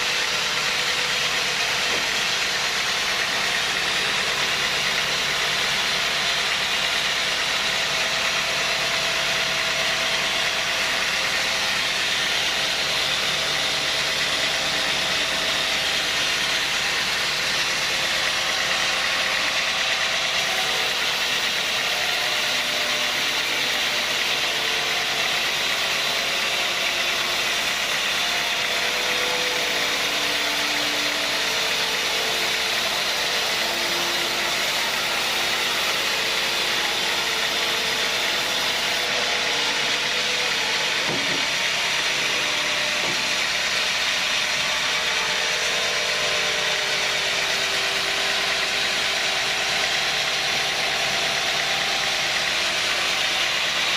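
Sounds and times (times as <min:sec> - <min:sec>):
sawmill saw running: 0:00.0 - 0:53.9.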